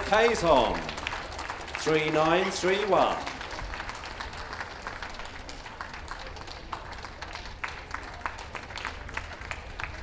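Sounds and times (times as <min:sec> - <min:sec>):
audience clapping: 0:00.0 - 0:10.0.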